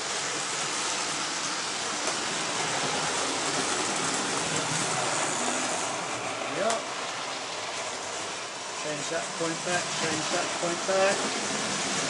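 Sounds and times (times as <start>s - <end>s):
model trains whirring on track: 0.0s - 12.0s.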